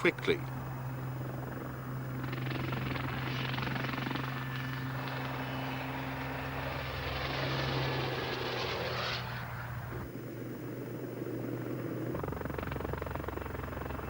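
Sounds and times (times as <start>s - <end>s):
helicopter rotor and turbine drone: 0.0s - 14.0s.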